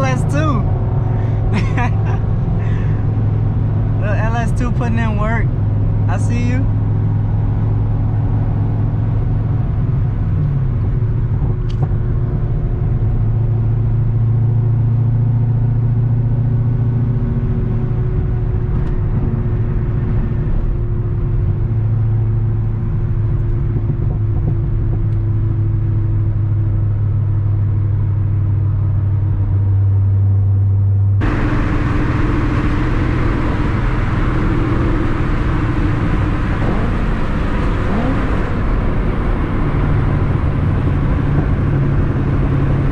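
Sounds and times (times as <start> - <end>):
car engine droning: 0.0 - 42.9.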